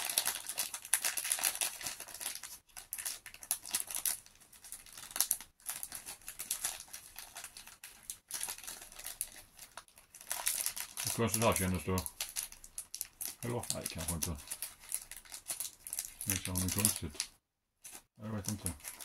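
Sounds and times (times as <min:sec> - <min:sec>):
plastic wrapper crinkling: 0:00.0 - 0:19.0.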